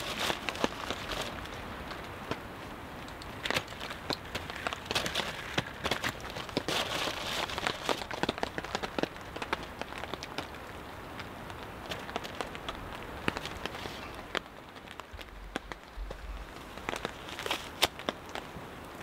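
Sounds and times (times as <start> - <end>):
rain on a tarp: 0.0 - 19.0.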